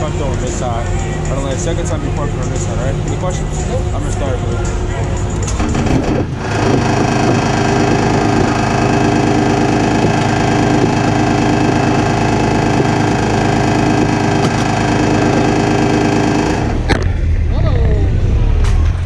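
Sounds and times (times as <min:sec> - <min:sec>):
vehicle engine running steadily: 0:00.0 - 0:19.0.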